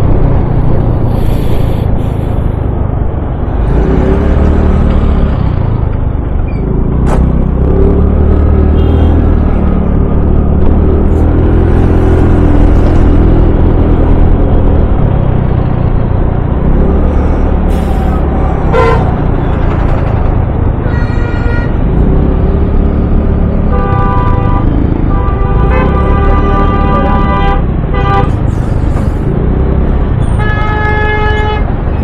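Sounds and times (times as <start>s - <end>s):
engine hum: 0.0s - 32.0s
road noise: 0.0s - 32.0s.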